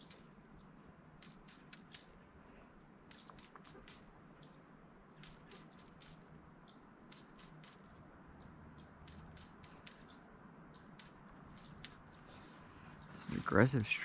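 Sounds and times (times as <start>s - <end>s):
small ticks and clicks: 0.0s - 14.0s.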